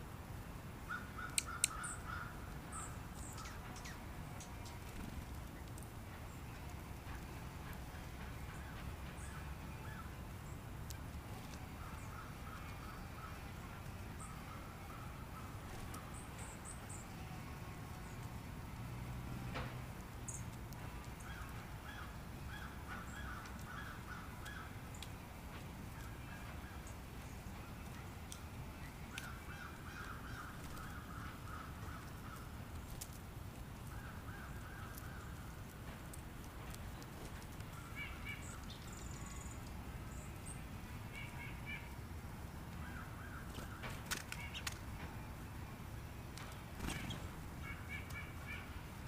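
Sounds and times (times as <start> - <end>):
distant birds calling: 0.8 - 18.3, 19.4 - 33.2, 33.8 - 49.0.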